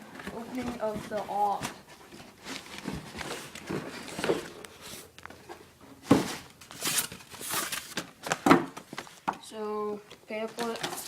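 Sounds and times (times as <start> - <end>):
packaging rustling and scraping: 0.0 - 9.3, 10.4 - 11.0.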